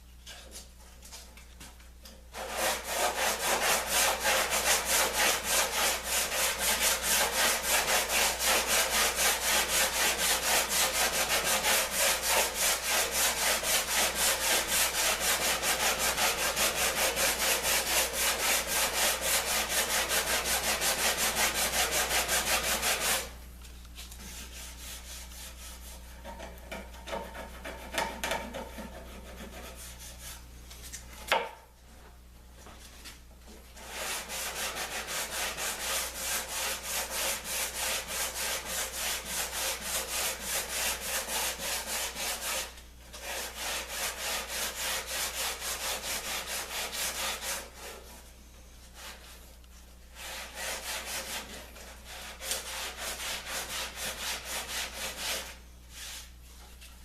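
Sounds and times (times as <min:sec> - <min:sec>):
hand tool planing wood: 0:02.4 - 0:23.4, 0:24.3 - 0:30.4, 0:33.8 - 0:48.2, 0:49.0 - 0:49.4, 0:50.2 - 0:56.2.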